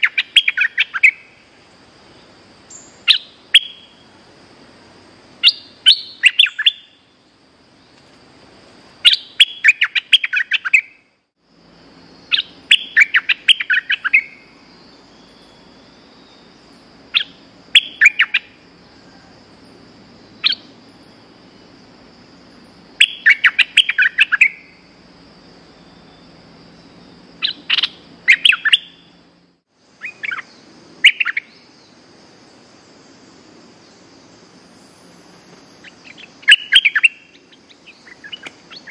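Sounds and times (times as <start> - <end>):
bird chirping song: 0.0 - 4.2, 5.4 - 8.2, 9.0 - 11.2, 11.8 - 38.9.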